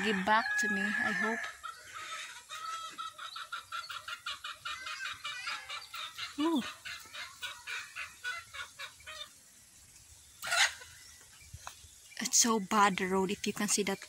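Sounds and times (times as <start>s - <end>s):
chickens clucking: 0.0s - 9.4s, 10.0s - 11.8s.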